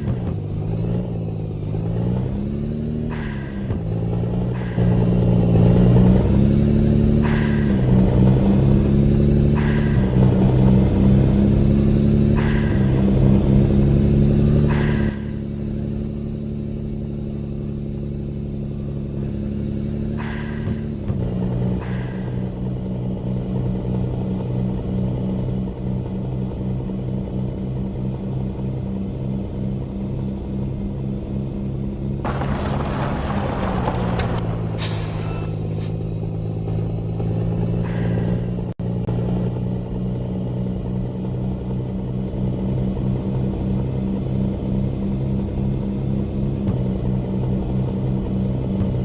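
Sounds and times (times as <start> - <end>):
truck engine accelerating: 0.0 - 49.0.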